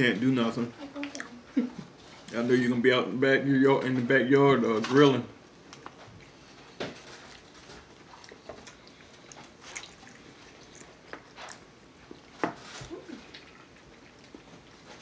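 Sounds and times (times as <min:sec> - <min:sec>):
people chewing ribs: 0:00.0 - 0:02.7, 0:04.6 - 0:15.0.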